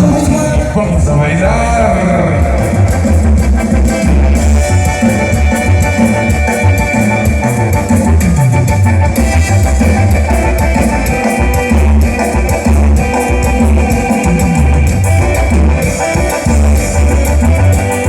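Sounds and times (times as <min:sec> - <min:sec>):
heavy pulsing bass line: 0:00.0 - 0:18.0
loud dance music: 0:00.0 - 0:18.0.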